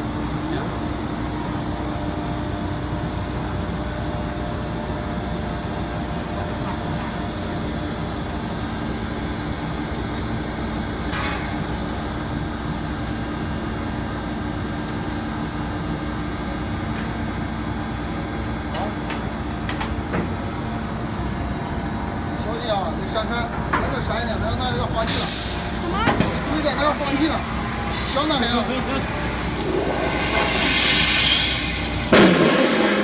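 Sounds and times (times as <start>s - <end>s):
machine humming and droning: 0.0s - 33.0s.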